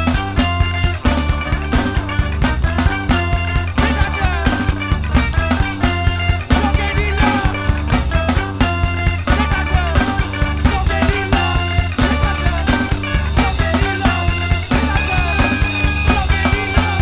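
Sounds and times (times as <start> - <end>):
drum kit beat: 0.0 - 17.0
rock band playing: 0.0 - 17.0.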